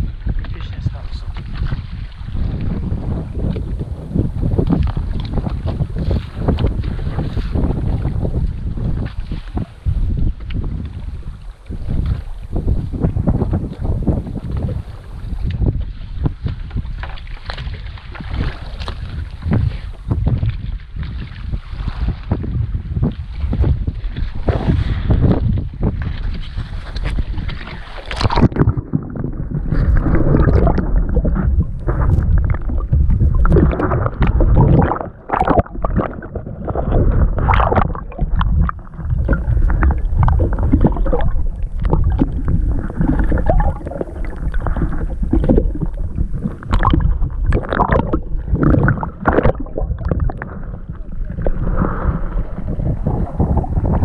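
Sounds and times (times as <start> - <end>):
muffled underwater sound: 0.0 - 20.8, 22.3 - 54.0
sea water sloshing and splashing: 0.0 - 54.0.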